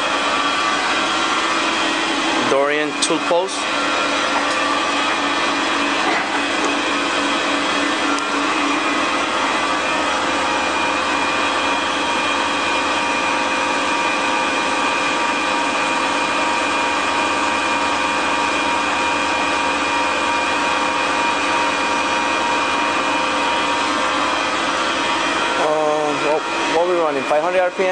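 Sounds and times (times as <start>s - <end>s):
lathe running with whine: 0.0s - 27.9s.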